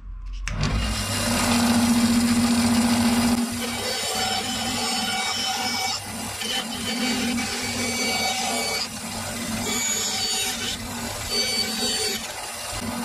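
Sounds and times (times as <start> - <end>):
power tool working wood: 0.5 - 13.0.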